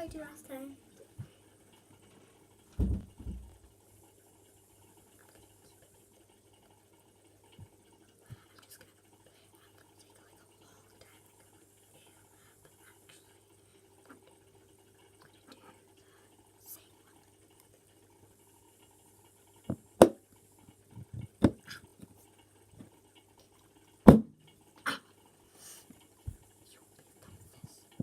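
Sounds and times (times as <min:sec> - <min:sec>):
faint soft clicks and wet ticks: 0:03.7 - 0:28.0.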